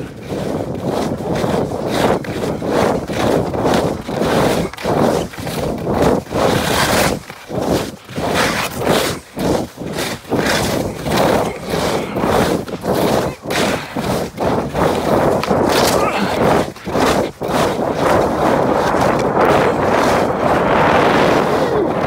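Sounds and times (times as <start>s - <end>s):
skis scraping over packed snow: 0.0s - 22.0s.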